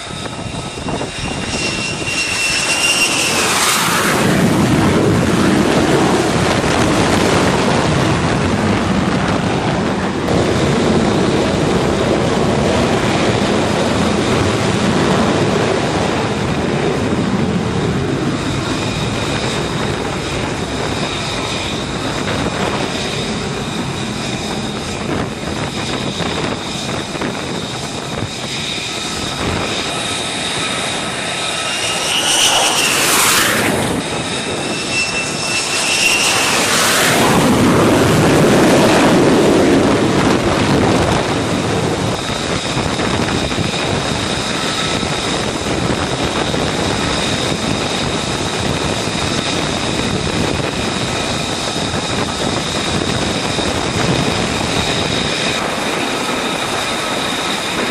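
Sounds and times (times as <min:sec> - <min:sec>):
jet engine whine: 0:00.0 - 0:57.9
jet exhaust rush: 0:00.0 - 0:57.9
jet sweeping past: 0:00.0 - 0:57.9.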